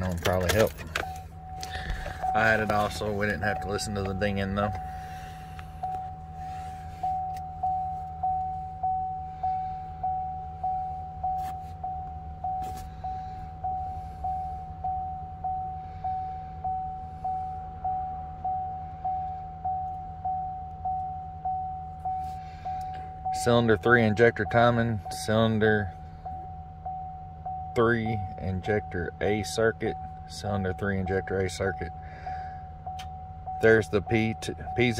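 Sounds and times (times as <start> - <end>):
dashboard warning chime dinging: 0.0 - 34.9
steady low hum: 0.0 - 34.9.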